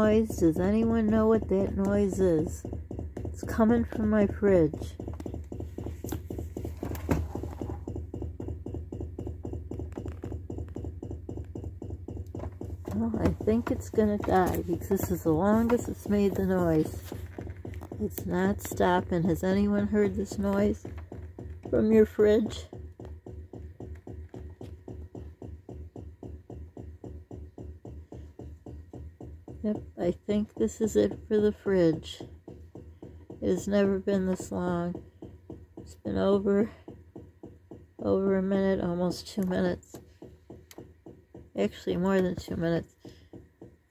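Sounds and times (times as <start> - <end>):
refrigerator pulsing rattle: 0.0 - 43.9.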